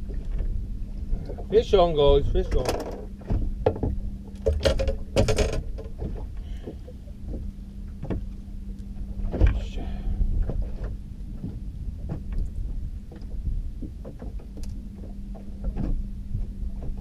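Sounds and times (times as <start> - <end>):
faint low hum: 0.0 - 17.0
knocks and handling on boat: 0.0 - 17.0
steady low rumble: 0.0 - 17.0.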